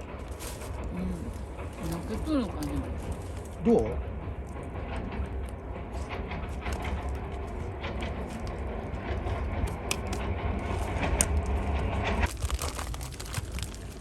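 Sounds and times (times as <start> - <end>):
low rumble: 0.0 - 14.0
wood fire crackling: 0.0 - 14.0.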